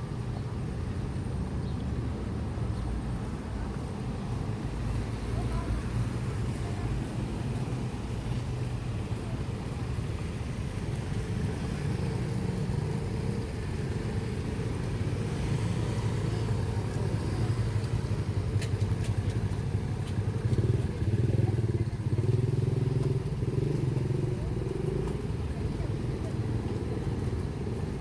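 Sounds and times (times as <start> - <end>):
motorbike traffic passing: 0.0 - 28.0.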